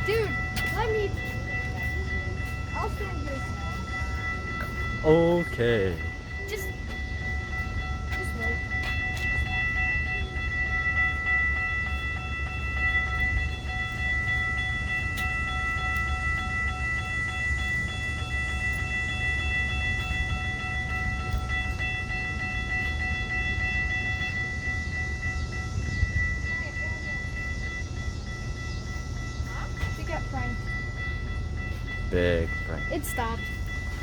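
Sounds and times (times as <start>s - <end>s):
crossing bells ringing: 0.0s - 34.0s
diesel train rumbling: 0.0s - 34.0s.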